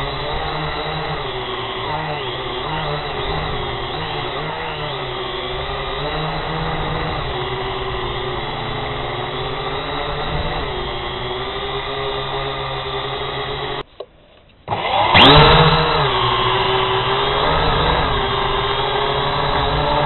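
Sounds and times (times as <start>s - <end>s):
drone propellers whining: 0.0s - 13.8s, 14.7s - 20.0s.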